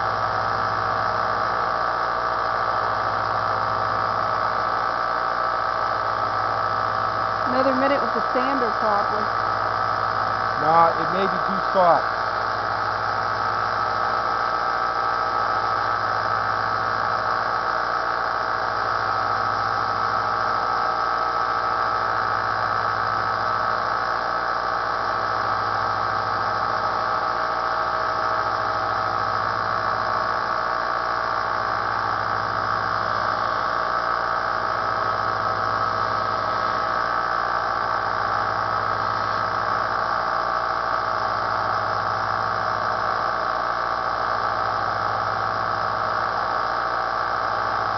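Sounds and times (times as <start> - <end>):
belt sander running: 0.0 - 47.9.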